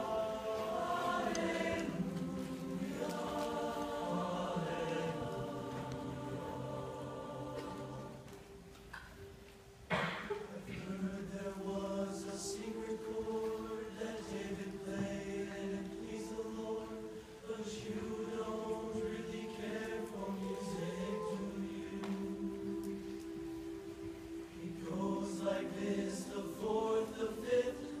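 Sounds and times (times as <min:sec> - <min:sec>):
choir singing: 0:00.0 - 0:08.7, 0:10.0 - 0:28.0.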